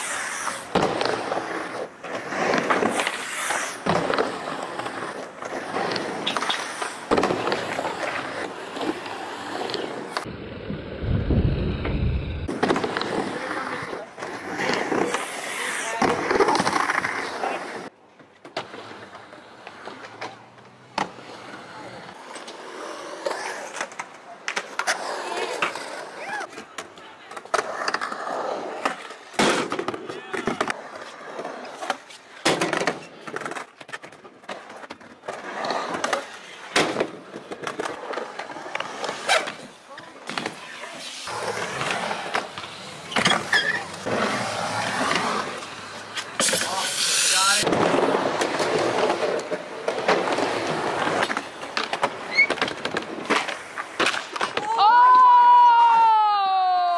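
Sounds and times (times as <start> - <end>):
skateboard wheels rolling: 0.0 - 56.9.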